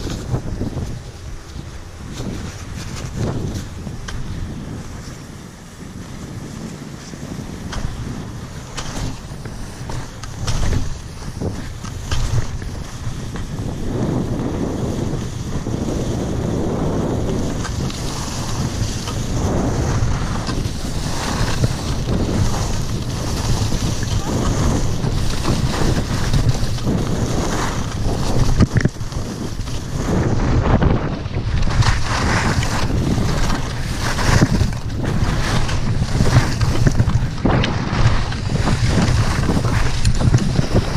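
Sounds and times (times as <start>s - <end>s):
skis scraping over snow: 0.0s - 40.9s
wind buffeting microphone: 0.0s - 40.9s.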